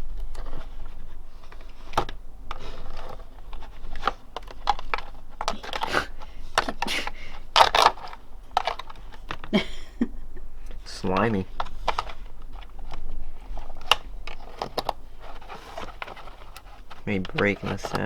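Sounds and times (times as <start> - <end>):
clicks and rustling of plastic molds: 0.1 - 9.6, 10.7 - 18.0.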